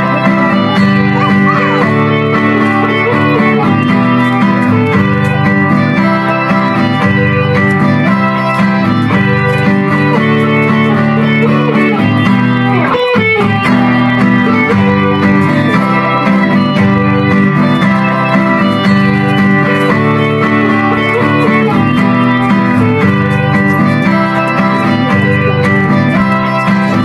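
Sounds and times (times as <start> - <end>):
guitar background music: 0.0 - 27.0.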